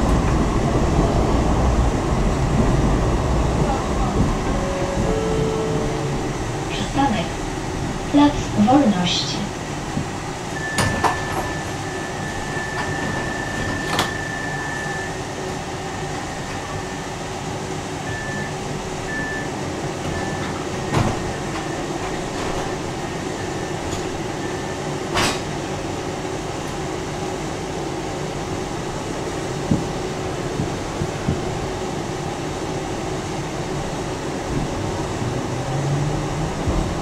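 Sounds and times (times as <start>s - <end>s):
tram rumble and hum: 0.0s - 37.0s.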